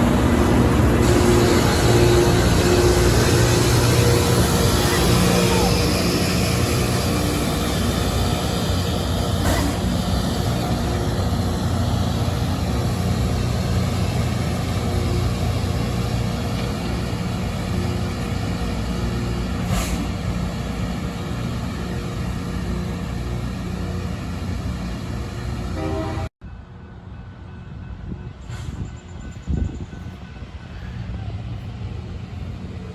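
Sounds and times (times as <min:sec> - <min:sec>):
train diesel engines rumbling: 0:00.0 - 0:32.9.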